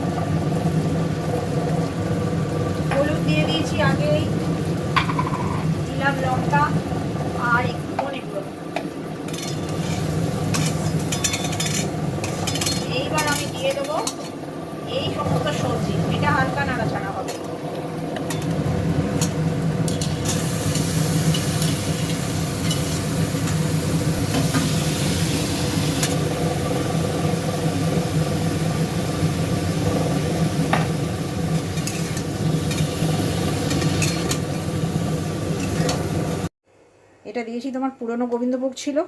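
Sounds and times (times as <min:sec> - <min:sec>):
vegetables sizzling in oil: 0:00.0 - 0:36.5.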